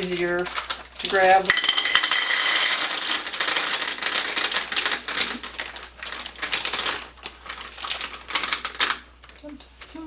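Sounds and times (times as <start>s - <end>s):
candy eggs clattering into a bowl: 0.0s - 9.1s.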